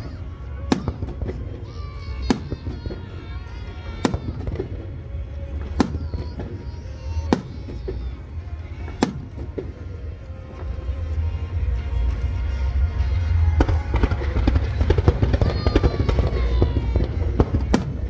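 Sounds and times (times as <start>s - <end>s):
fireworks bangs: 0.0s - 10.8s, 13.0s - 18.0s
faint fireworks pops: 0.0s - 11.2s, 11.9s - 18.0s.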